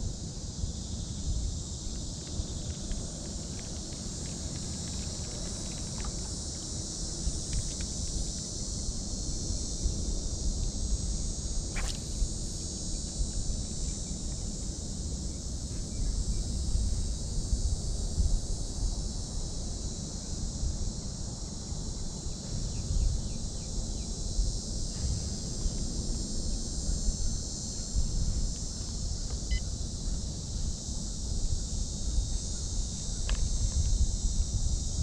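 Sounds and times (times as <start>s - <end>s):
high-pitched insect chorus: 0.0s - 35.0s
wind rumbling on microphone: 0.0s - 35.0s.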